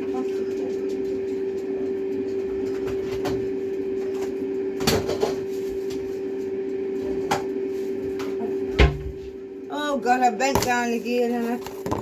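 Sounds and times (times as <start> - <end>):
kitchen appliance humming: 0.0 - 12.0.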